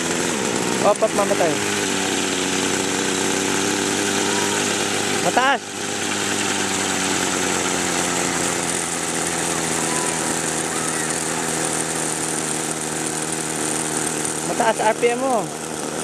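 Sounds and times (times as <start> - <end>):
helicopter engine running: 0.0 - 16.0.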